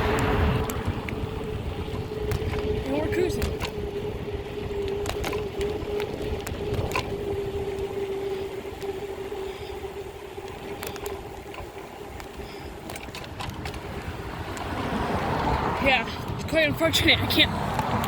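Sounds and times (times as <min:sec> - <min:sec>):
sharp clicks and rattles: 0:00.0 - 0:14.8
steady hum: 0:00.0 - 0:14.9
road rumble: 0:00.0 - 0:18.0
wind buffeting microphone: 0:00.0 - 0:18.0.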